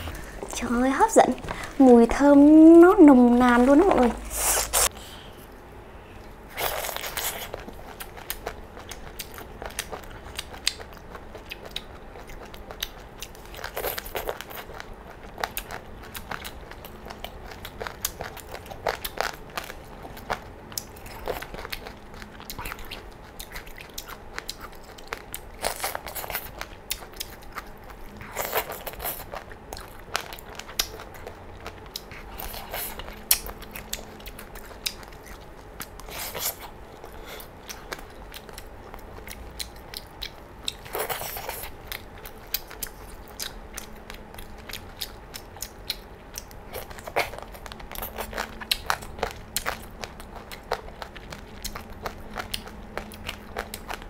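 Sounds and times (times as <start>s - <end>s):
crunchy chewing: 6.2s - 54.0s.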